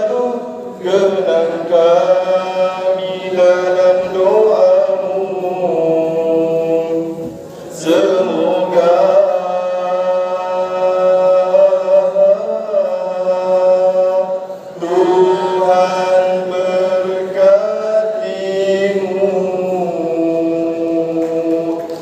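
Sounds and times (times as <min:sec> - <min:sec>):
man chanting a prayer: 0:00.0 - 0:22.0.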